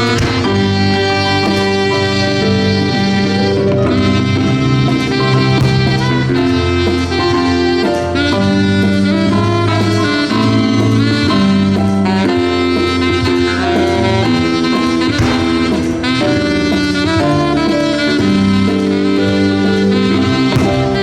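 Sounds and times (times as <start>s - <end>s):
jazz band playing: 0.0s - 21.0s.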